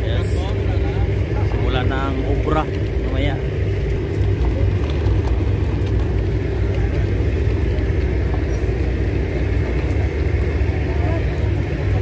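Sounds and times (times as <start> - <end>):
fluttering low rumble: 0.0 - 12.0.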